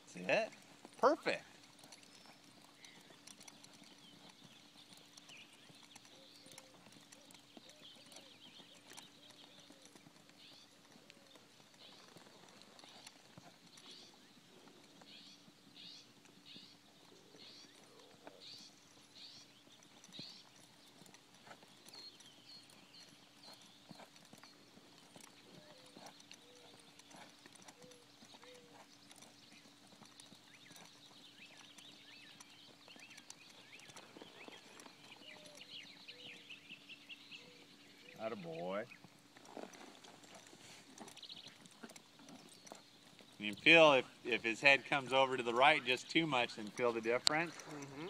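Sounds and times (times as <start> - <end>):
horse hoofbeats: 0.0 - 48.0.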